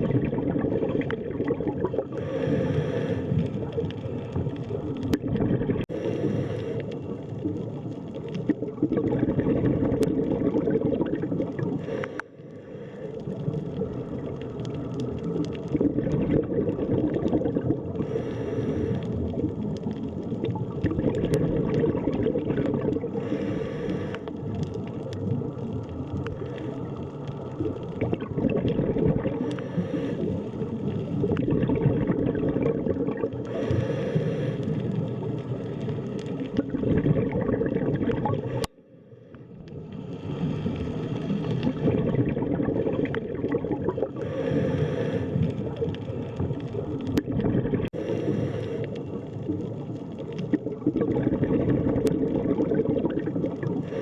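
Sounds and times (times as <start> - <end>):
hissing bubble bursts: 0.0 - 26.7, 27.5 - 38.8, 40.1 - 54.0
underwater rumbling wash: 0.0 - 54.0.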